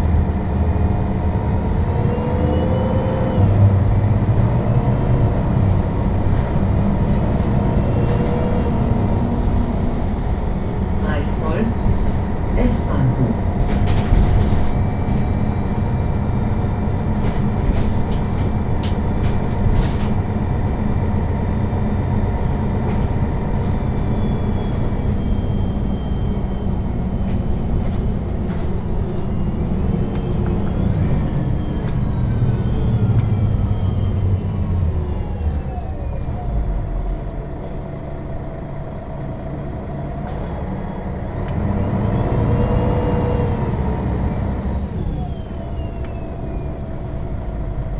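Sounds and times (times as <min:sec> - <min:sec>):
bus diesel engine rumble: 0:00.0 - 0:47.9
drivetrain whine: 0:00.0 - 0:47.9.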